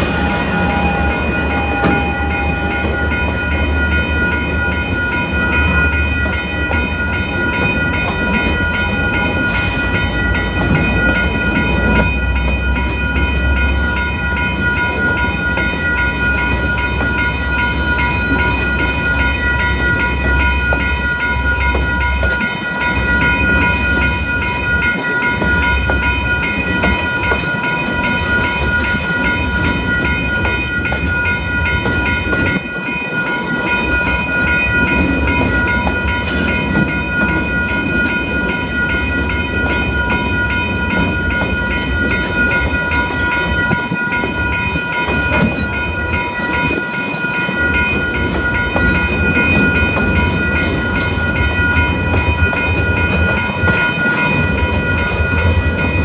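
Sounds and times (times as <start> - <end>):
freight train rumble and wheel noise: 0.0 - 56.0
high ringing tones: 0.0 - 56.0.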